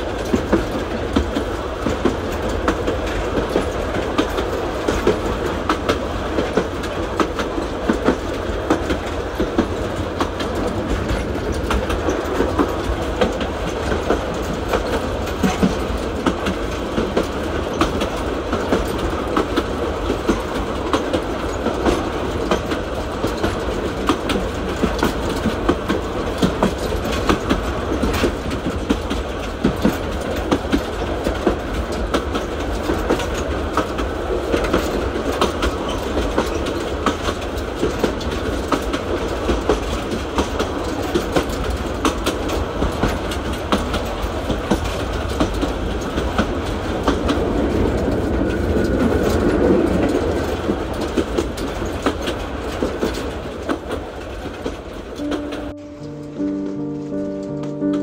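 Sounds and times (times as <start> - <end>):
wheel clacks over rail joints: 0.0 - 55.8
train rumbling on rails: 0.0 - 58.0.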